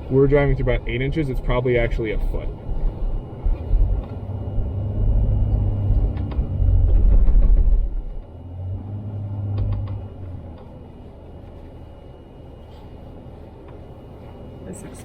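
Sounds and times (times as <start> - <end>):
truck engine and tyres in snow: 0.0 - 15.0.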